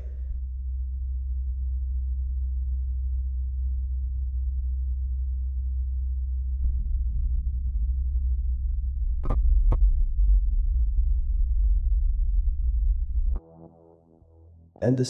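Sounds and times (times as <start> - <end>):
deep rumble: 0.0 - 13.4.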